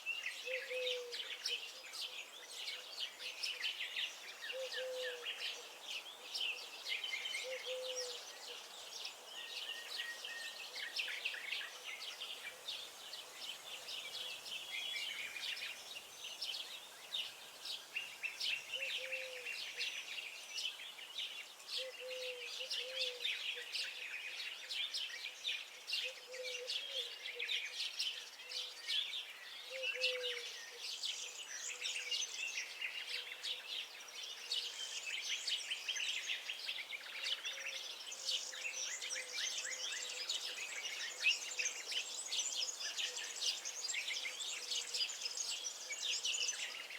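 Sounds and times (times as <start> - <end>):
songbirds singing and chirping: 0.0 - 46.9.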